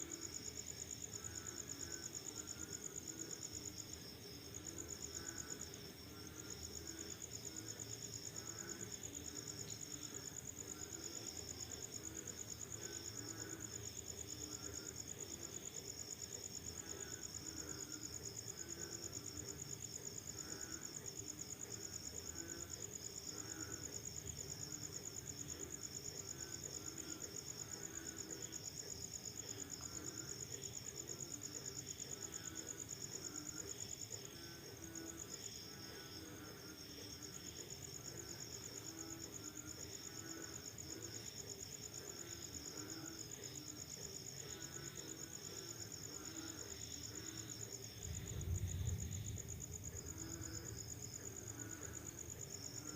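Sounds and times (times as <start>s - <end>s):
crickets trilling: 0.0s - 52.9s
frogs croaking: 0.0s - 52.9s.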